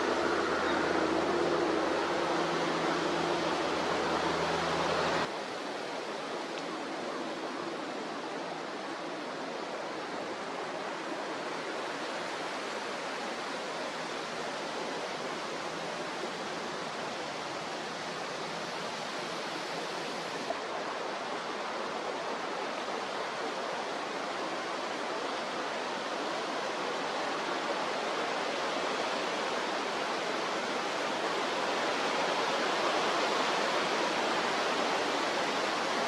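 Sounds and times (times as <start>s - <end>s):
sea rushing: 0.0s - 36.0s.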